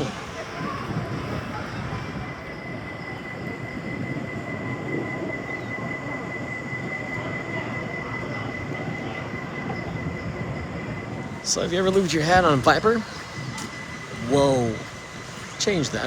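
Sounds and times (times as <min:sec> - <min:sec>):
high whine: 0:00.0 - 0:16.0
roller coaster rumbling on track: 0:00.0 - 0:16.0.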